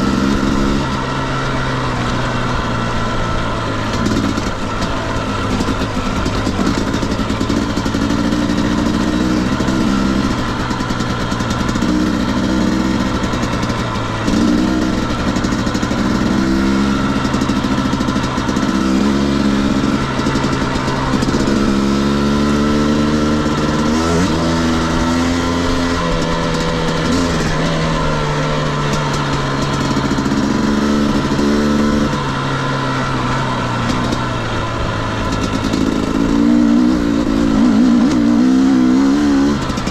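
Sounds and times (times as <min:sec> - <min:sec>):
dirt bike two-stroke engine revving: 0:00.0 - 0:39.9.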